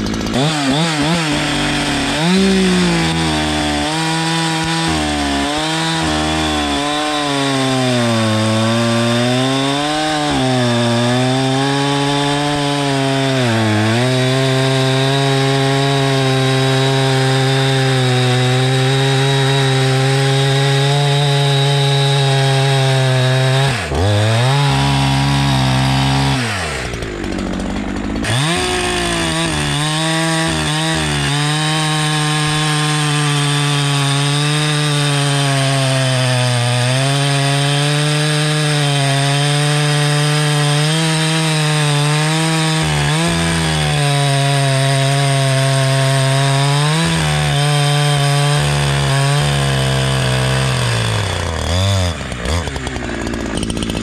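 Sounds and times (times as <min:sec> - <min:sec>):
chainsaw cutting through log: 0:00.0 - 0:54.0.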